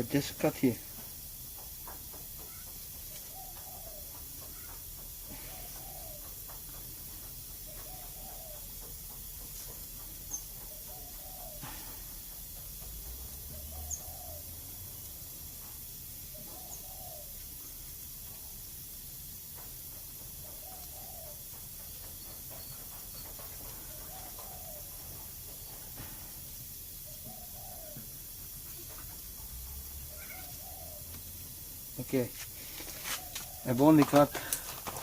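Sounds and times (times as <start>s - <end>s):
background hiss: 0.0s - 35.0s.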